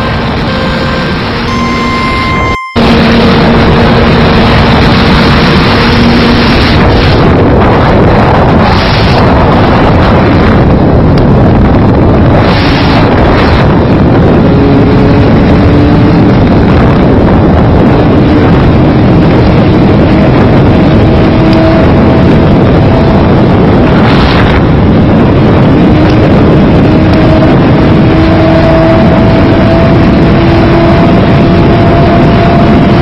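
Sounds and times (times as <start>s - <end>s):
motorcycle engine at full throttle: 0.0s - 33.0s
wind rush on microphone: 0.0s - 33.0s.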